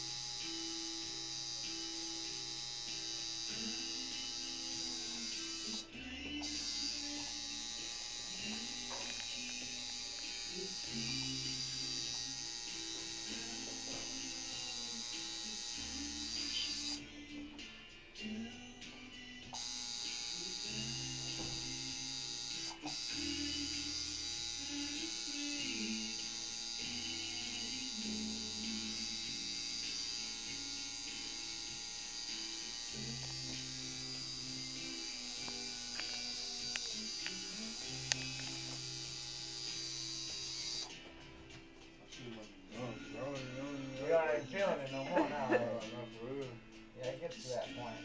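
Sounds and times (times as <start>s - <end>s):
tattoo machine buzzing: 0.0s - 17.1s, 18.6s - 41.1s
background music with bass: 0.0s - 48.0s.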